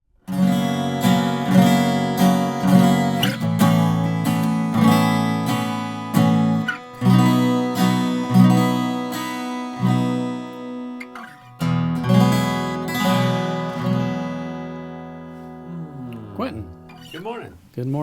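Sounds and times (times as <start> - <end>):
acoustic guitar strumming: 0.2 - 17.6.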